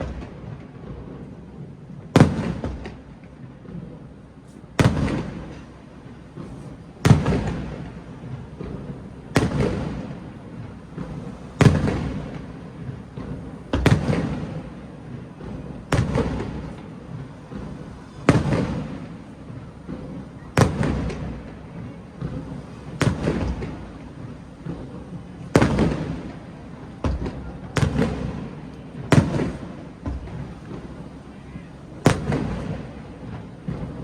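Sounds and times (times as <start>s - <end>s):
fireworks bursting with rumbling echo: 0.0s - 34.0s.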